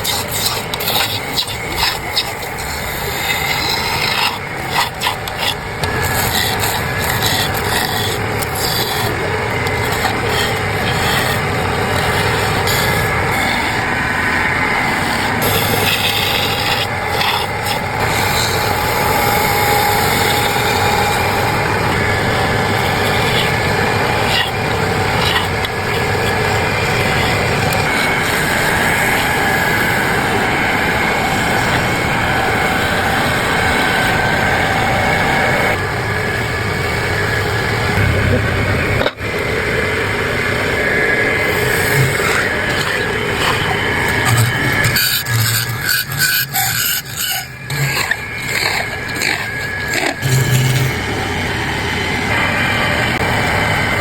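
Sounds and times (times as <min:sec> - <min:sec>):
tool rasping wood: 0:00.0 - 0:34.3, 0:40.7 - 0:51.6.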